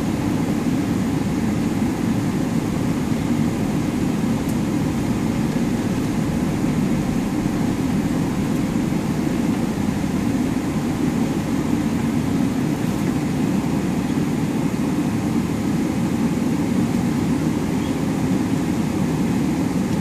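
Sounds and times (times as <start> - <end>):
cabin air conditioning: 0.0 - 20.0
jet engines rumbling: 0.0 - 20.0.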